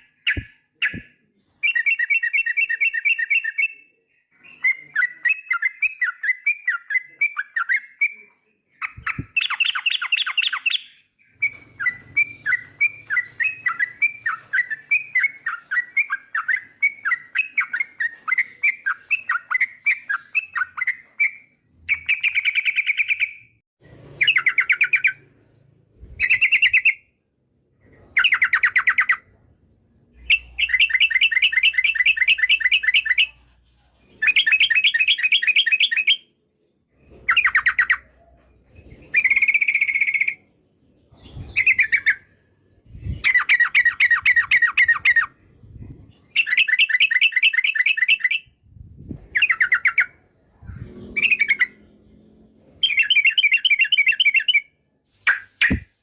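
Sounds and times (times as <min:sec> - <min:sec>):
bulbul singing: 0:00.0 - 0:23.6, 0:24.2 - 0:27.2, 0:30.1 - 0:33.5, 0:34.2 - 0:36.4, 0:39.0 - 0:48.6, 0:49.2 - 0:56.0.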